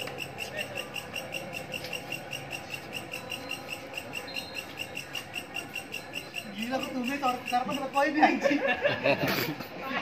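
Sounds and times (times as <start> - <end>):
cricket chirping: 0.0 - 8.8.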